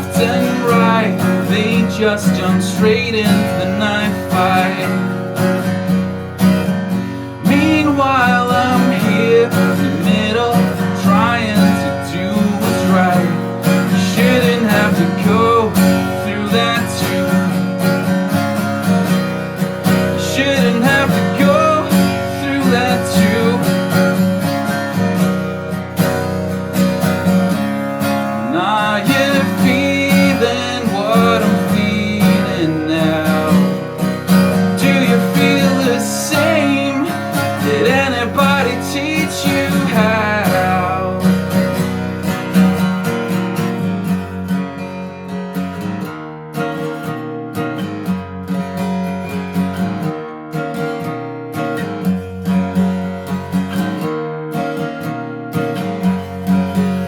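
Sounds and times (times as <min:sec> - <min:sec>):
strummed acoustic guitar: 0:00.0 - 0:57.0.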